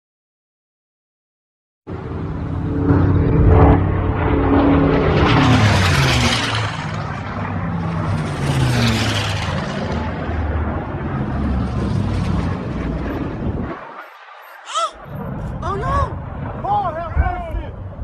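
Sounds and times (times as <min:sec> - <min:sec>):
propeller planes flying past: 0:01.9 - 0:18.0.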